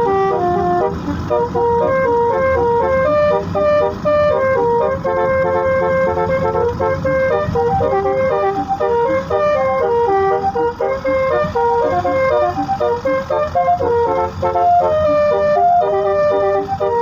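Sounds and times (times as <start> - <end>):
multi-trumpet horn melody: 0.0 - 17.0.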